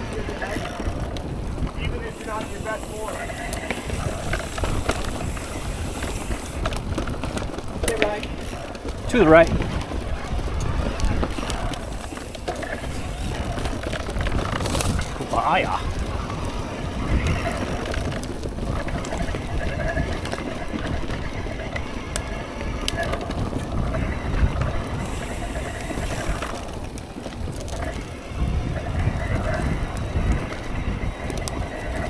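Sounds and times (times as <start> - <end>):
bike rattles and clicks: 0.0 - 32.0
bike tyre rumble on dirt: 0.0 - 32.0
wind: 0.0 - 32.0.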